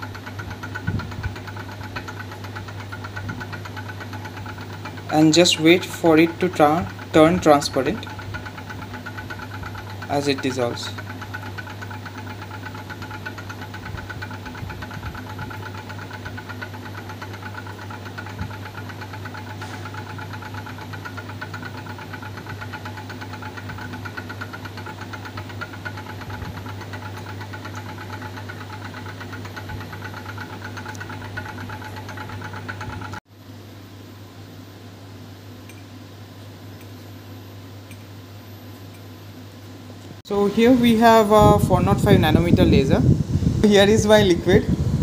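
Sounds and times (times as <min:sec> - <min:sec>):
magnetic stirrer humming and whirring: 0:00.0 - 0:45.0.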